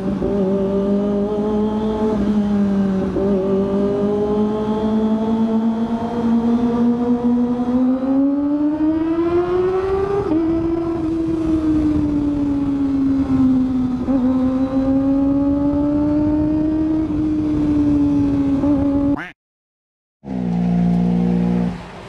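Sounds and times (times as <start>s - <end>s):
motorcycle engine at high revs: 0.0s - 19.2s, 20.2s - 21.9s.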